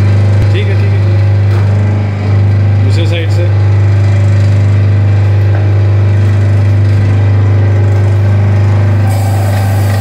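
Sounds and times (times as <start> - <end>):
cutting machine humming: 0.0 - 10.0.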